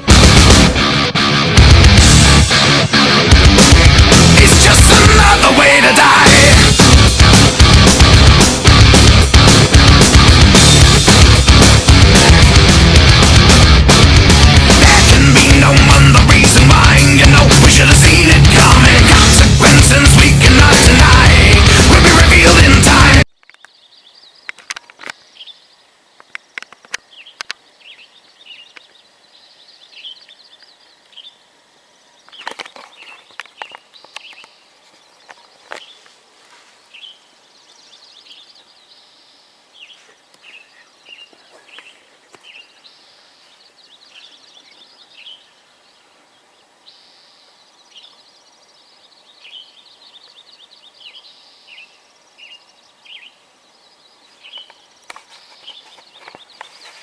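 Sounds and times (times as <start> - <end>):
songbirds chirping: 3.8 - 57.0.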